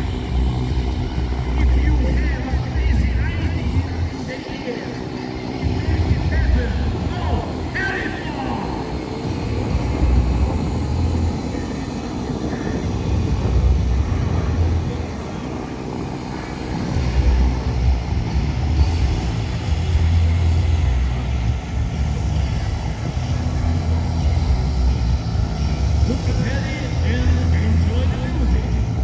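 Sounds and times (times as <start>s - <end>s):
aircraft rumble: 0.0s - 29.0s.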